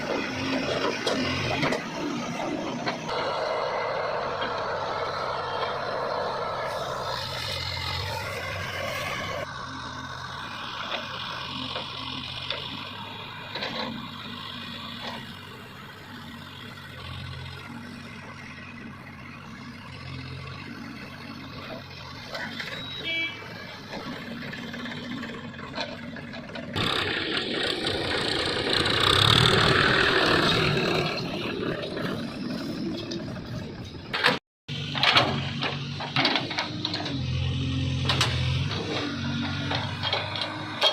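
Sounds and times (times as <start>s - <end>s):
diesel machinery running: 0.0s - 40.9s.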